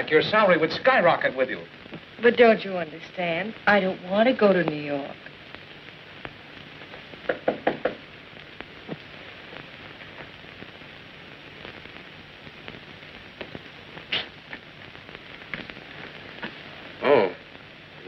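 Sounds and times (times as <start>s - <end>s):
film soundtrack hiss and crackle: 0.0s - 18.0s.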